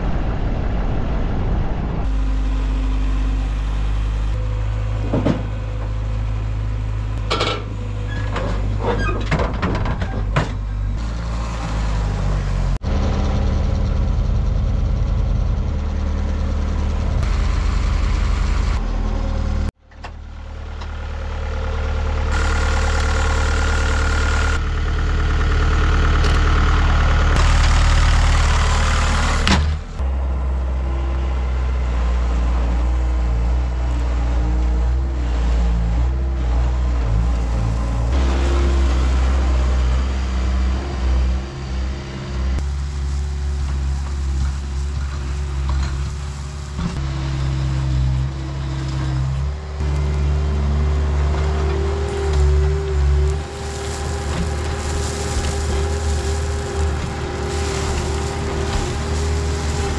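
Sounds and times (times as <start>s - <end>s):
diesel loader engine running: 1.8s - 59.9s.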